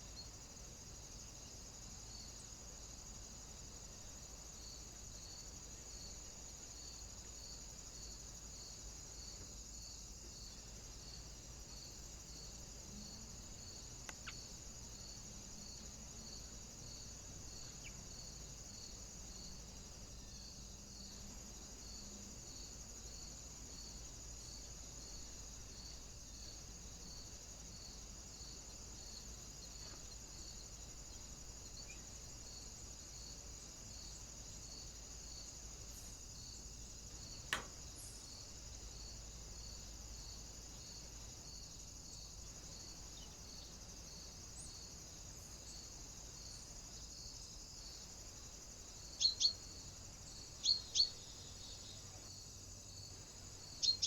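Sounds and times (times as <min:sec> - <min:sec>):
faint high-pitched pulsing hiss: 0:00.0 - 0:54.0.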